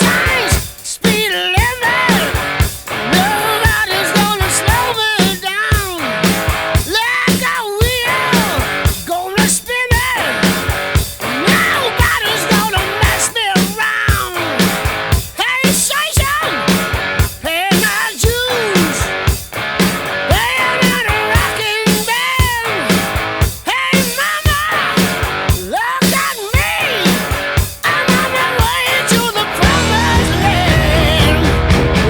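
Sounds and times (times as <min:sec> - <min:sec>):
person singing: 0:00.0 - 0:19.2, 0:20.3 - 0:32.0
electric guitar: 0:00.0 - 0:32.0
steady drum beat: 0:00.0 - 0:32.0.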